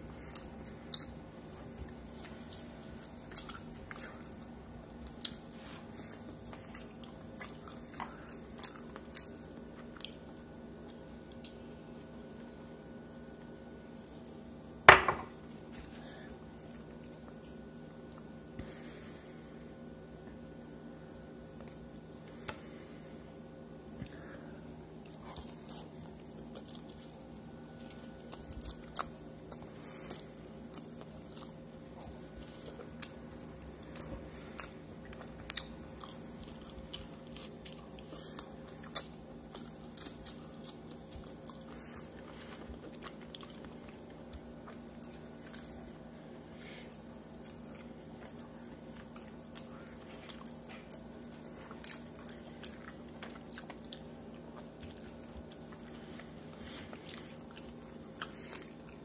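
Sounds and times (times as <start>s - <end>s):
steady low hum: 0.0s - 59.0s
chewing and biting tacos: 0.1s - 13.5s, 23.8s - 59.0s.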